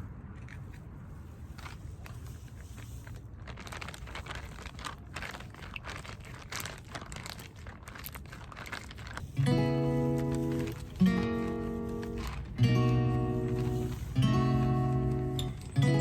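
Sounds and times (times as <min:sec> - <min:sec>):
plastic packaging crinkling: 0:01.4 - 0:16.0.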